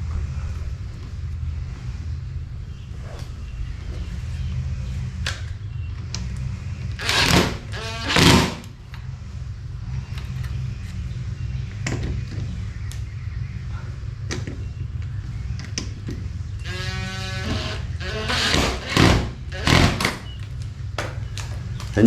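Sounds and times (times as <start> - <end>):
steady low hum: 0.0 - 7.8, 8.6 - 22.0.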